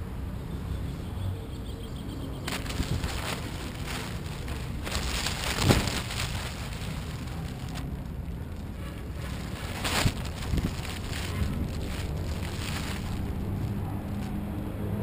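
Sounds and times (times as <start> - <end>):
kite fabric rustling: 2.4 - 14.5
wind rumbling on microphone: 2.4 - 15.0.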